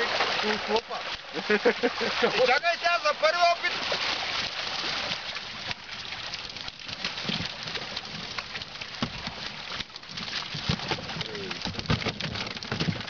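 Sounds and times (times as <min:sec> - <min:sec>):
fish splashing in a net: 0:00.0 - 0:13.0.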